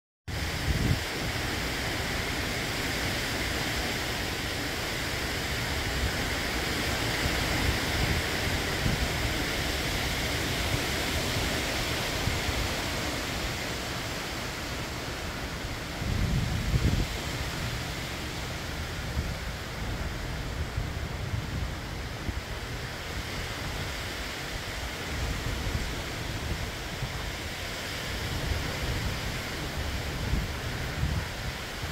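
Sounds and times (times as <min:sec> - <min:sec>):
steady rain hiss: 0:00.3 - 0:31.9.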